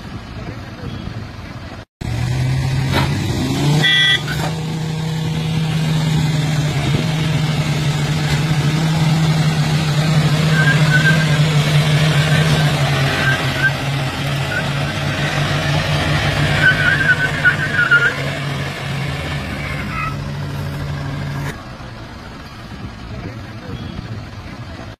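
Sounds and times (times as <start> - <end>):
engines running hard under load: 0.0 - 24.9
wheels churning dirt: 2.1 - 24.9.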